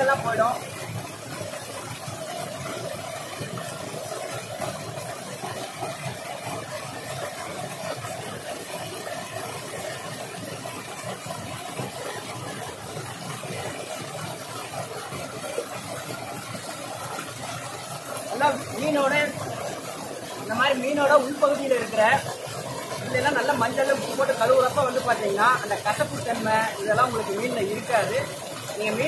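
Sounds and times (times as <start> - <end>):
waterfall pouring onto rocks: 0.0 - 29.0.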